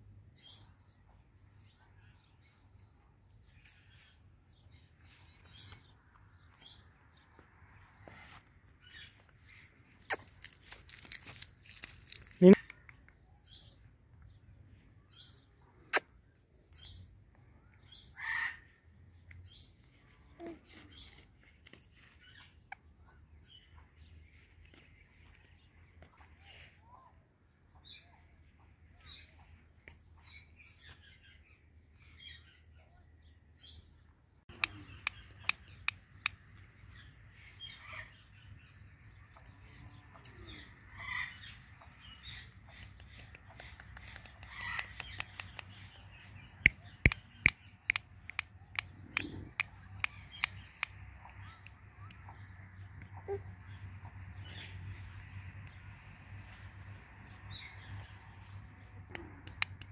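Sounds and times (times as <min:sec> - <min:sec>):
bird chirping: 0:00.3 - 0:25.8, 0:27.7 - 0:59.9.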